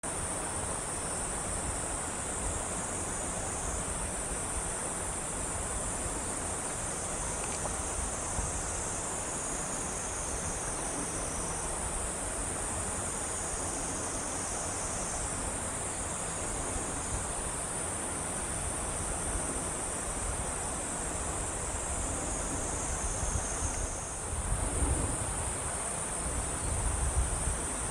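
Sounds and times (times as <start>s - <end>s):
insects chorus: 0.0s - 27.9s.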